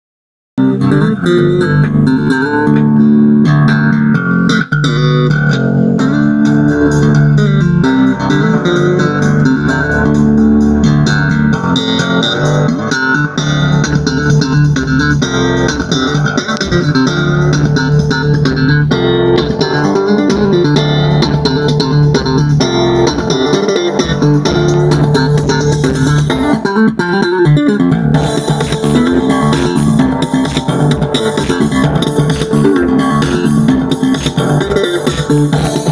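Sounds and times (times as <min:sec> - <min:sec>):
music with bass and plucked guitar: 0:00.6 - 0:35.9.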